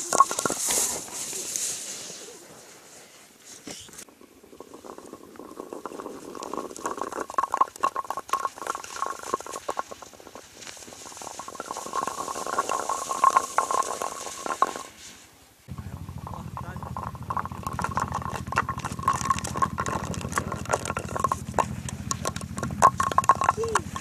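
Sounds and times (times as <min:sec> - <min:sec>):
sliding scraping on icy snow: 0:00.0 - 0:24.0.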